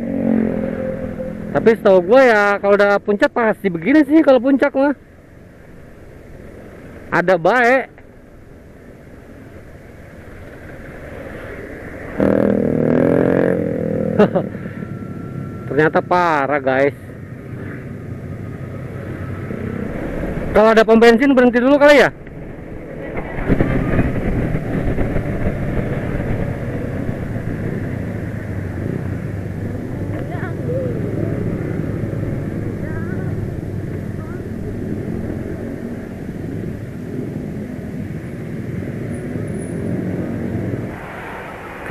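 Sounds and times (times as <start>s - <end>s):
motorcycle engine: 0.0s - 3.0s, 5.0s - 41.9s
traffic and road noise: 0.0s - 41.9s.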